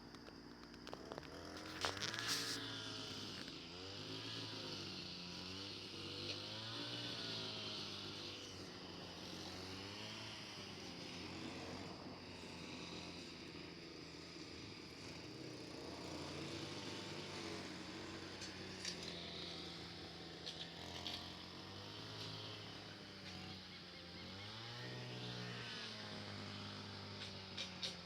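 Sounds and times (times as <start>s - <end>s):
engine running steadily: 0.0s - 28.0s.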